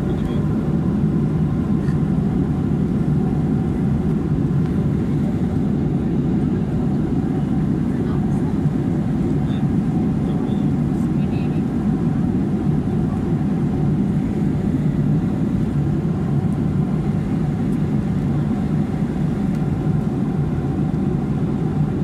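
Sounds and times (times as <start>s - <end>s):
airliner cabin drone: 0.0s - 22.0s.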